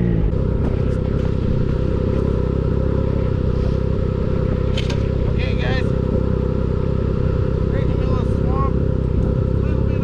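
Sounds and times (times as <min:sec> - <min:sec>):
snowmobile engine running: 0:00.0 - 0:10.0.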